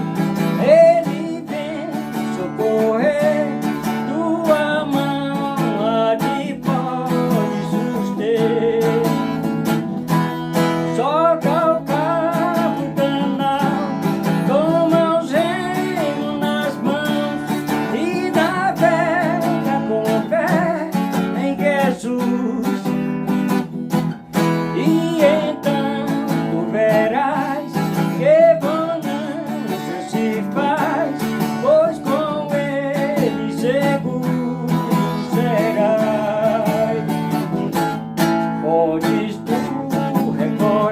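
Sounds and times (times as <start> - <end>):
strummed acoustic guitar: 0.0 - 40.9
person singing a hymn: 0.6 - 9.4, 10.9 - 23.0, 24.7 - 37.2, 38.6 - 40.9.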